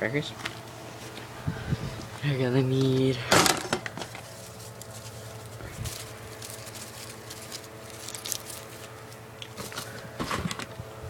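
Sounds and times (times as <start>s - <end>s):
steady low hum: 0.0s - 11.0s
rustling while handling objects: 0.4s - 10.9s.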